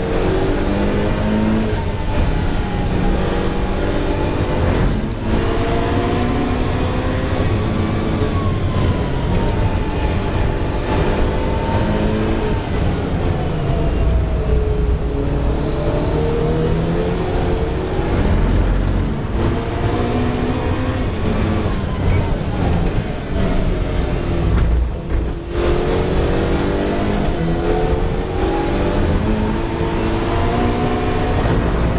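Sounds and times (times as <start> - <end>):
race car engine revving: 0.0 - 31.9.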